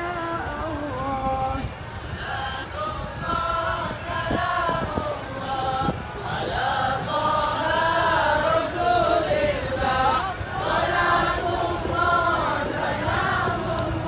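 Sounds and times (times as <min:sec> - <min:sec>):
group chanting in unison: 0:02.1 - 0:14.0.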